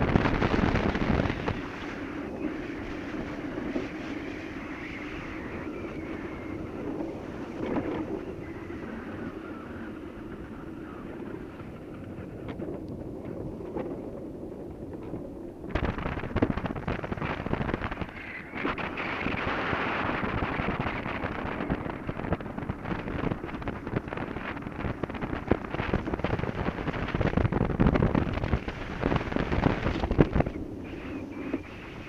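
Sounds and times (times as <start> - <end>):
wind buffeting microphone: 0.0 - 32.0
tyres rumbling on asphalt: 5.4 - 32.0.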